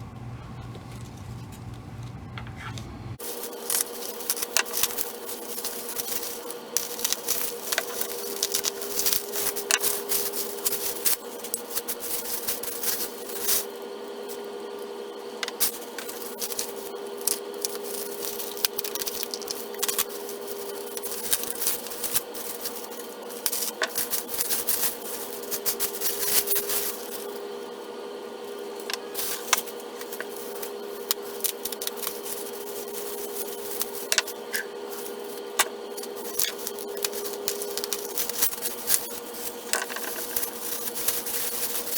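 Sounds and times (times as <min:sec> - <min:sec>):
steady hum: 0:00.0 - 0:41.9
wrapping rustling and crinkling: 0:03.2 - 0:41.9.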